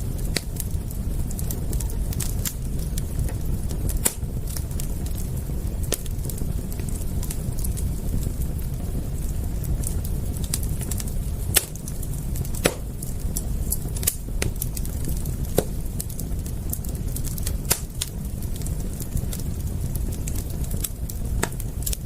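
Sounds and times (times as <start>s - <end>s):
steady low rumble: 0.0s - 22.0s
wood fire crackling: 0.0s - 22.0s.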